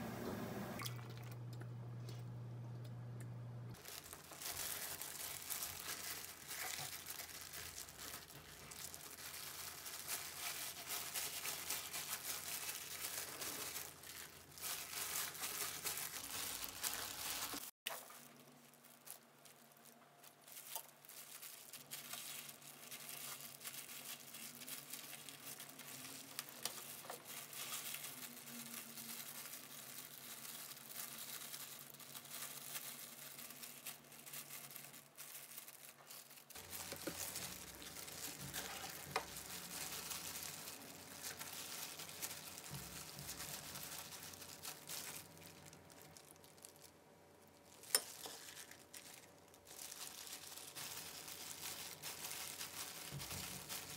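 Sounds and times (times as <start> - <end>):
plastic gloves crinkling: 3.7 - 53.9.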